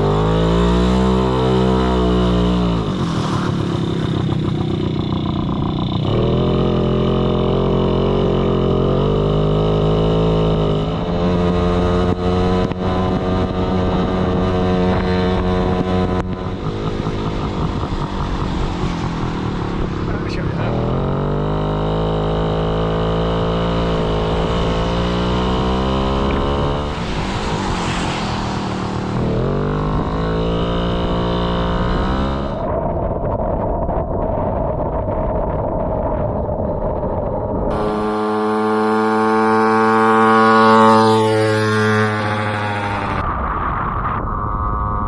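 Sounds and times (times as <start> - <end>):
moped engine running: 0.0 - 32.6, 37.7 - 43.2.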